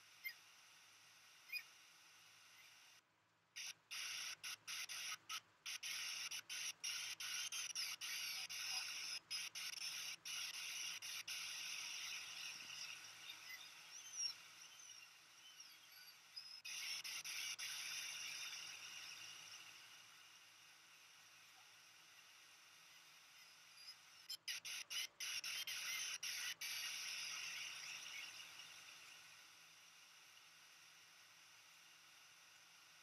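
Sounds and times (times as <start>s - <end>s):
faint high chirps: 0.0s - 3.0s, 3.6s - 33.0s.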